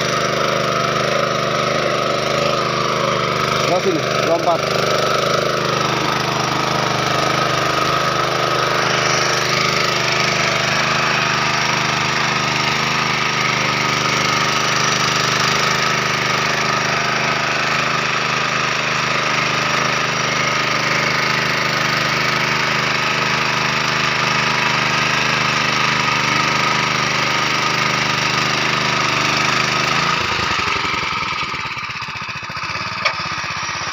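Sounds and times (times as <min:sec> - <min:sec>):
petrol engine running: 0:00.0 - 0:33.9.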